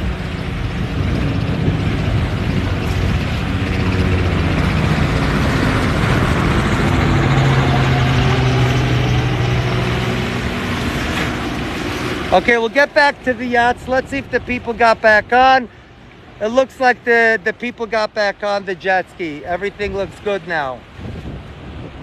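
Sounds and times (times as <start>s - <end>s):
motorboat engines droning: 0.0s - 22.0s
water noise: 0.0s - 22.0s
wind: 0.0s - 22.0s.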